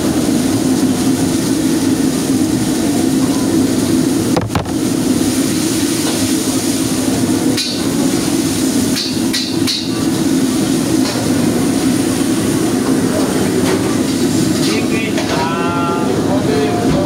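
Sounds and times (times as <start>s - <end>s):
gas burner and extractor rushing: 0.0s - 16.3s.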